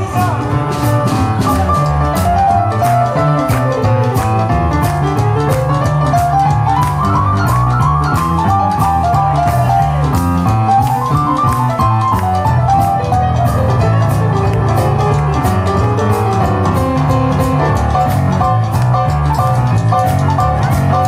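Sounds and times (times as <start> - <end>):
jump blues band playing: 0.0 - 21.0
piano: 0.0 - 21.0.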